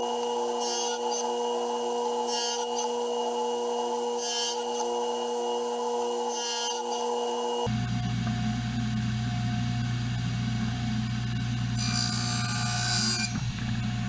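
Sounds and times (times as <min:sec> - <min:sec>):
table saw running: 0:00.0 - 0:14.0.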